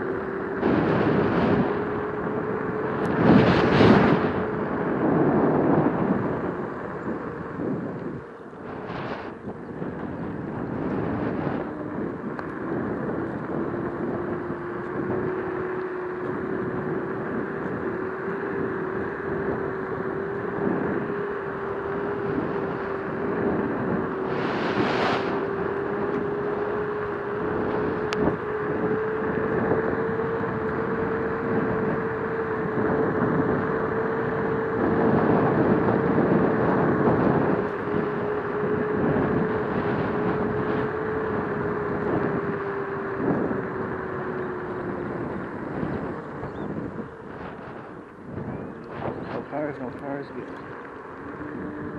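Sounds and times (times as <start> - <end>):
scooter motor whining: 0.0 - 51.9
wind and tyre noise: 0.0 - 51.9.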